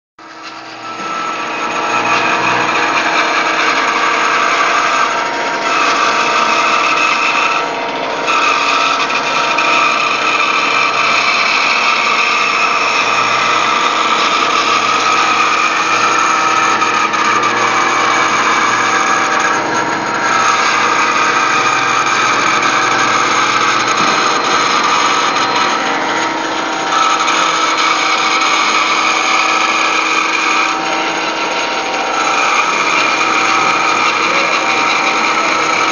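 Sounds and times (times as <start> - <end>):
bandsaw cutting wood: 0.2 - 35.9.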